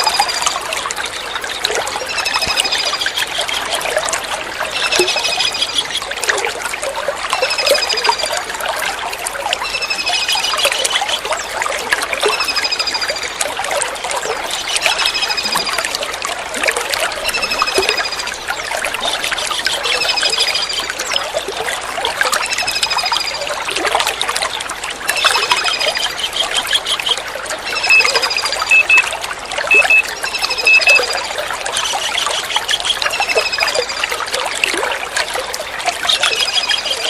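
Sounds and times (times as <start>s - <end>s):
water trickling: 0.0s - 37.0s.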